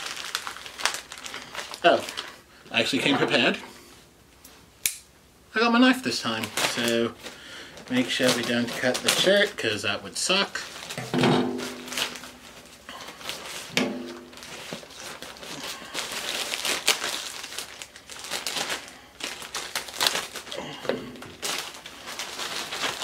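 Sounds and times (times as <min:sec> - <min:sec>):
plastic bag crinkling: 0:00.0 - 0:03.6, 0:06.1 - 0:23.0.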